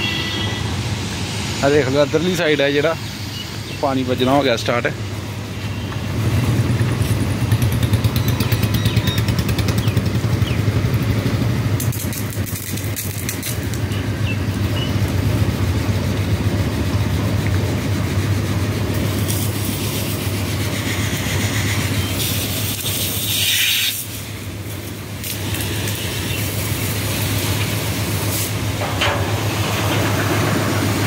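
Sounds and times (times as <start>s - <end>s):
tractor diesel engine idling: 1.6s - 31.0s.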